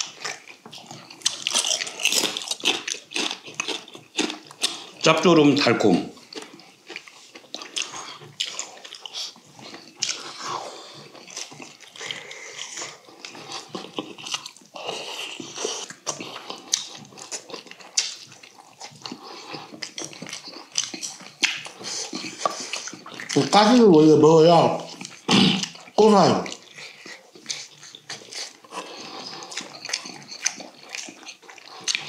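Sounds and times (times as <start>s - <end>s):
people chewing: 0.0s - 32.0s.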